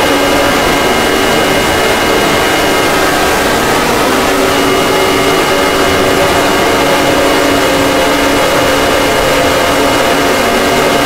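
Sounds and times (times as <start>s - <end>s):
harsh alarm with hissing and tones: 0.0s - 11.0s.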